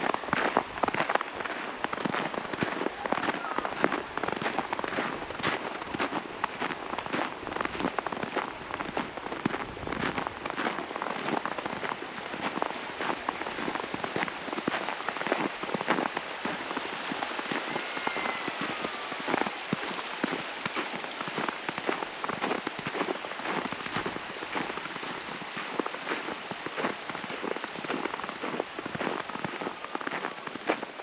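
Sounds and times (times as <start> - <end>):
footsteps crunching in snow: 0.0 - 31.0.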